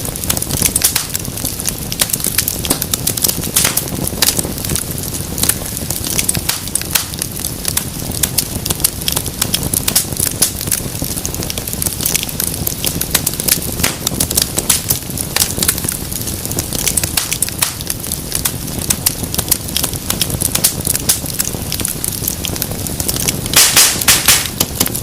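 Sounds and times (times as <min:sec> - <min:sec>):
burning wood crackling: 0:00.0 - 0:25.0
fire flames rushing: 0:00.0 - 0:25.0.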